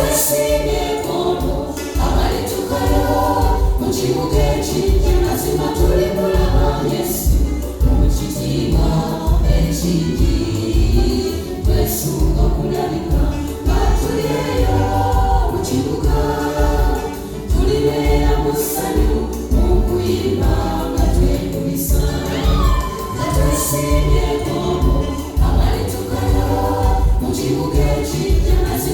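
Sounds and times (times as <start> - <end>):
choir singing gospel music: 0.0 - 28.9
low bass beat: 0.0 - 28.9.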